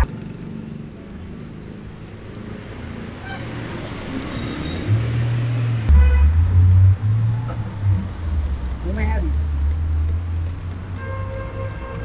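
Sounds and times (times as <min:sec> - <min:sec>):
vehicle engine rumble: 0:00.0 - 0:11.0
street traffic: 0:00.0 - 0:12.0.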